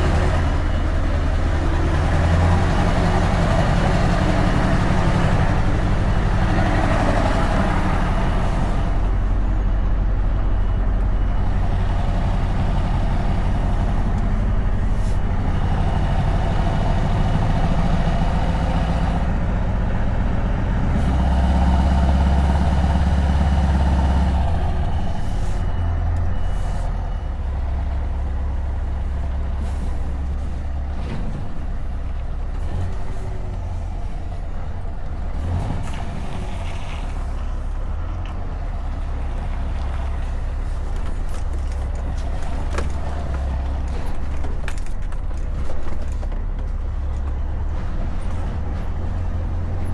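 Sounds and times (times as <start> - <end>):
truck engine deep exhaust note: 0.0 - 44.7.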